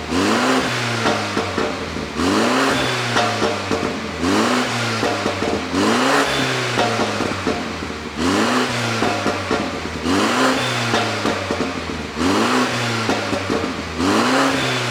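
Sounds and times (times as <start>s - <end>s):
car engine revving: 0.0s - 14.9s
exhaust pops and crackles: 0.0s - 14.9s.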